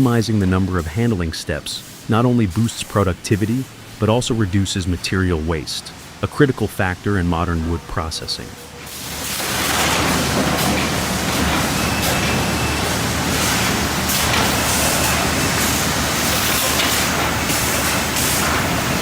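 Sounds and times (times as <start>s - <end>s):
sawmill machinery running: 2.3s - 19.0s.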